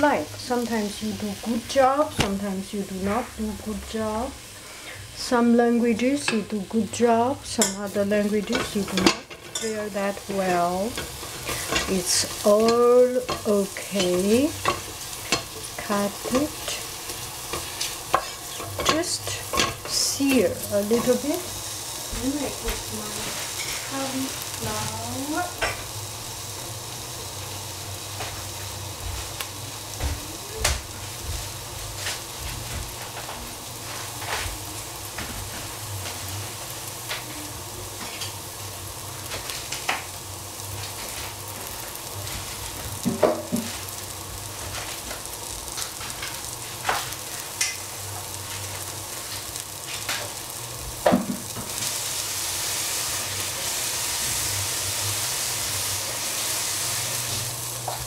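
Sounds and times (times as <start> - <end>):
mushrooms sizzling in oil: 0.0 - 58.0.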